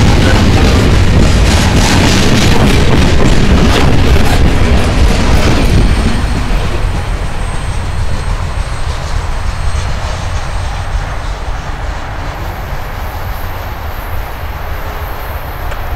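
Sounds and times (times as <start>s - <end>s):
freight train wheels on rails: 0.0s - 15.9s.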